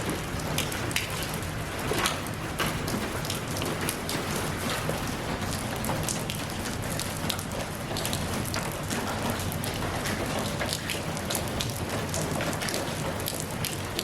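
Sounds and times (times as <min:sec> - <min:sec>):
rain drops pattering and splashing: 0:00.0 - 0:14.0.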